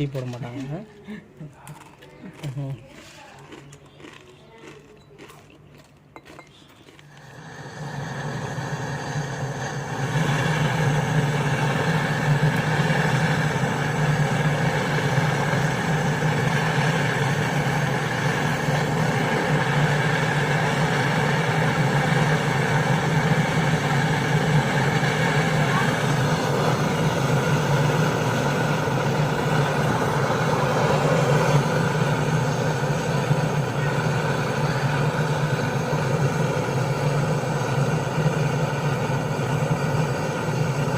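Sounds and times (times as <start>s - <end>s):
machine motor humming: 7.0s - 40.9s.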